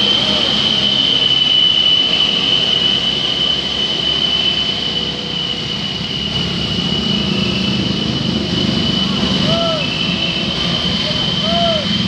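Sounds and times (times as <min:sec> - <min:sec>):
roadside traffic: 0:00.0 - 0:12.0
steady high-pitched whine: 0:00.0 - 0:12.0.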